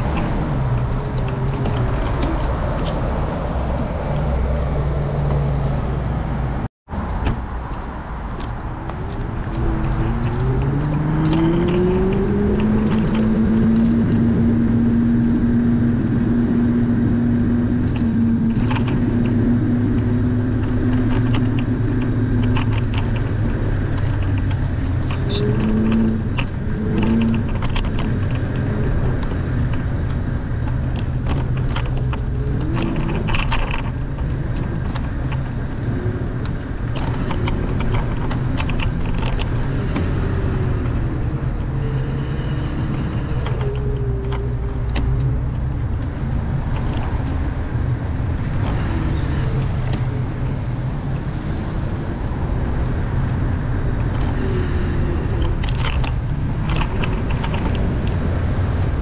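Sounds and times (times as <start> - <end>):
wind and wheel rumble: 0.0 - 59.0.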